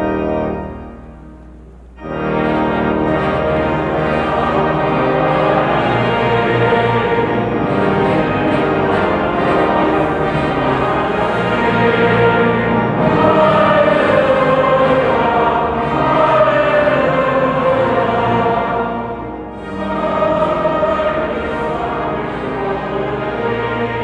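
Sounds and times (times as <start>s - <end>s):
choir singing sacred music: 0.0s - 24.0s
instrumental accompaniment: 0.0s - 24.0s.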